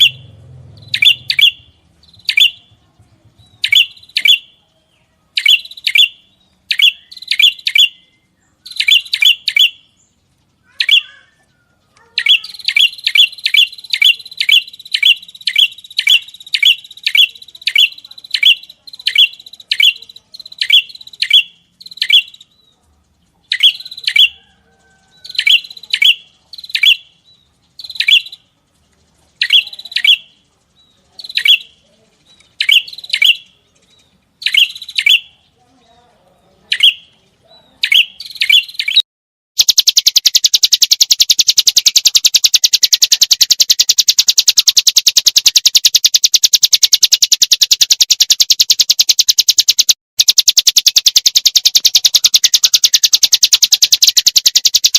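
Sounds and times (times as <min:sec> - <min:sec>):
thin high bird trill: 0:00.0 - 0:02.8, 0:03.5 - 0:35.5, 0:39.6 - 0:54.9.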